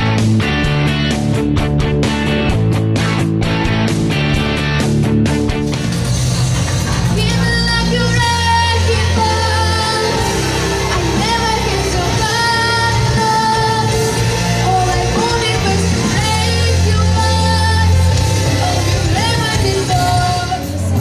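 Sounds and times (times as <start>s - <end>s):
pop-rock song with singer: 0.0s - 21.0s.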